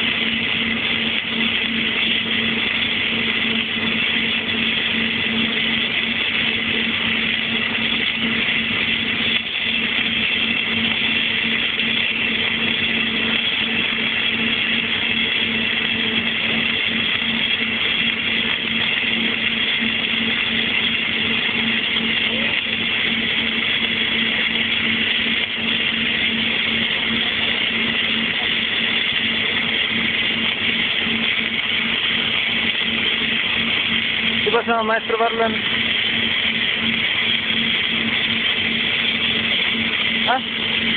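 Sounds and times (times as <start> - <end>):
welder humming: 0.0 - 40.9
welding hiss: 0.0 - 40.9.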